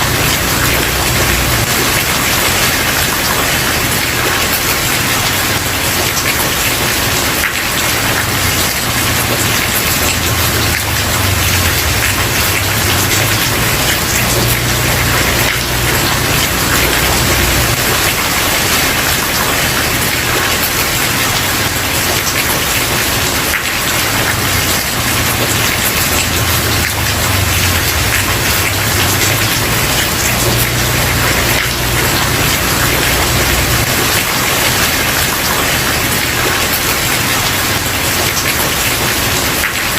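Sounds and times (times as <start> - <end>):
rain pattering on wooden porch: 0.0 - 39.9.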